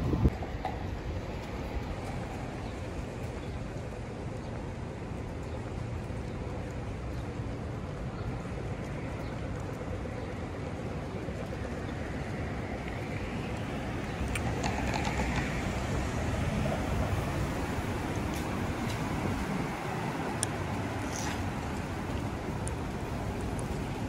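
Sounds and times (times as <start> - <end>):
city street rumble: 0.0 - 24.0.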